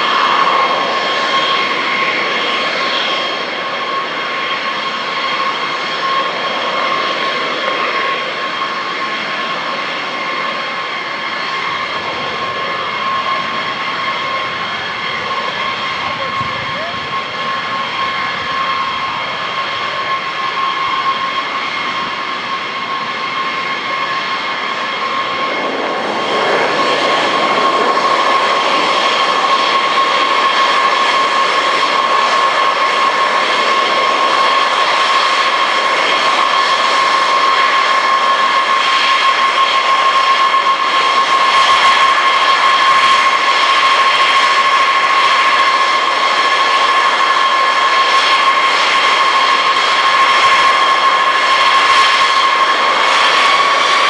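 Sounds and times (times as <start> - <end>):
jet engines whine and roar: 0.0 - 54.0.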